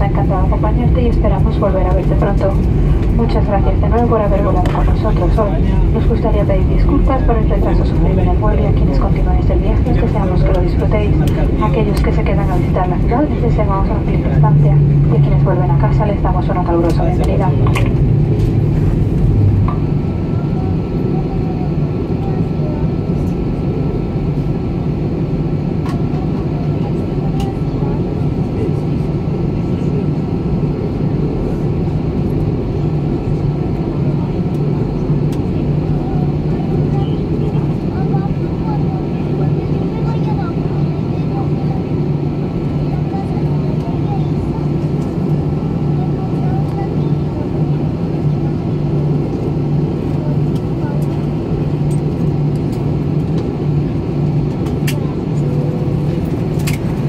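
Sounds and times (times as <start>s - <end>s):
jet engines idling in cabin: 0.0s - 57.0s.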